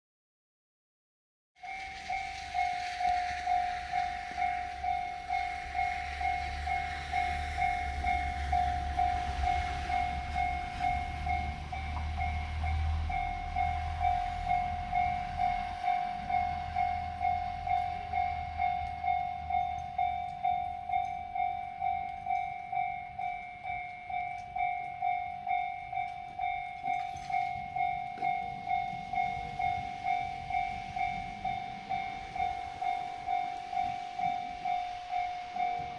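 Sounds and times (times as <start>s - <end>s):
level crossing bell ringing: 1.6s - 35.9s
low train rumble: 1.6s - 35.9s.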